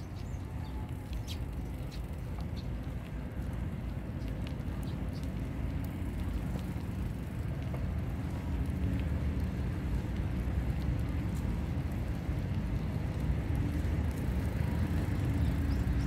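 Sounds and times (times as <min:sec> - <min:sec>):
tyres rolling on asphalt: 0:00.0 - 0:16.0
faint ticks: 0:00.1 - 0:16.0.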